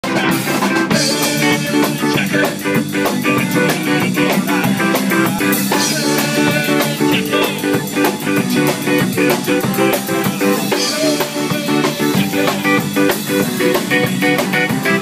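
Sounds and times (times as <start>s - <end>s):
ska band playing live: 0.0s - 15.0s.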